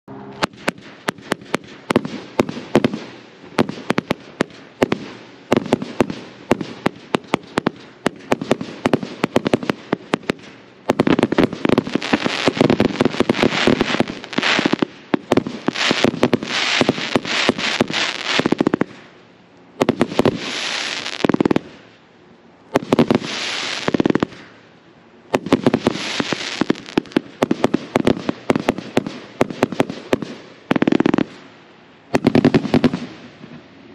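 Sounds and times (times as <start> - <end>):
firework bangs: 0.1 - 19.2, 19.8 - 21.9, 22.7 - 24.6, 25.3 - 31.5, 32.1 - 33.7.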